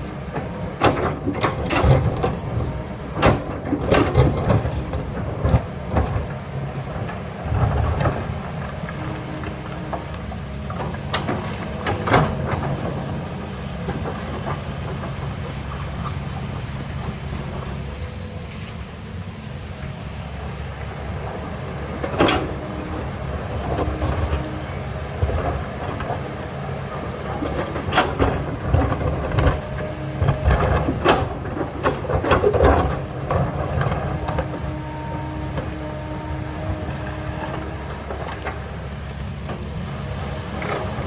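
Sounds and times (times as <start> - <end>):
heavy diesel engine under load: 0.0 - 41.0.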